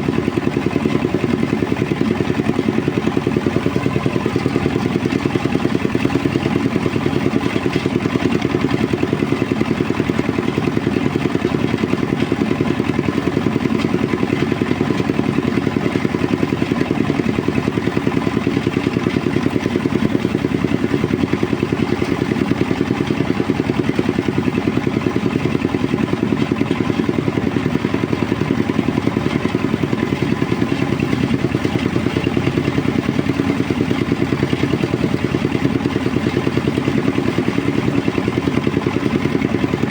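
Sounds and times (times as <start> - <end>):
threshing machine engine running: 0.0 - 39.9.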